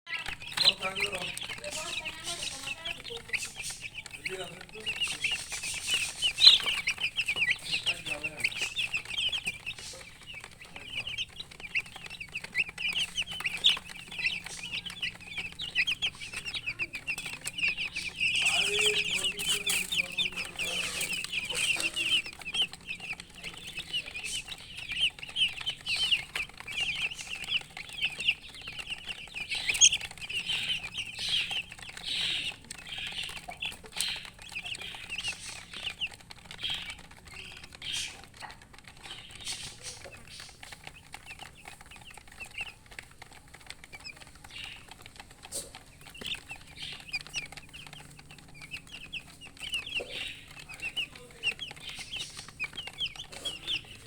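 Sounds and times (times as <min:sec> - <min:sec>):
baby chicks peeping: 0:00.0 - 0:54.0
sharp clicks: 0:00.1 - 0:54.0.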